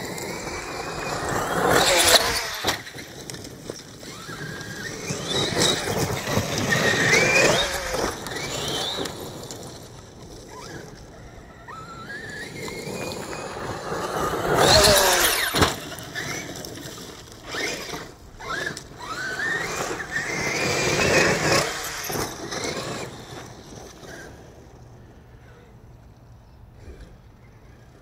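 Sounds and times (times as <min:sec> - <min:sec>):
electric motor whining: 0:00.0 - 0:25.8.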